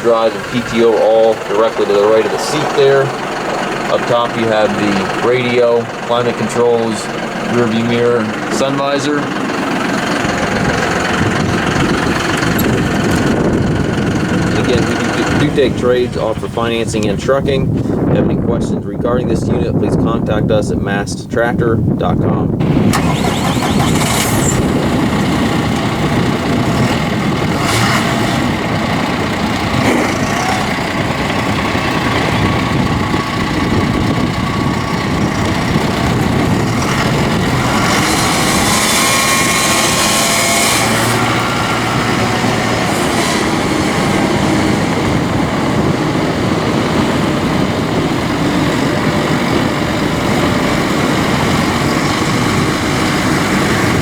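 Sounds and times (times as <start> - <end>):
tractor diesel engine running: 0.0 - 21.0, 21.8 - 54.0.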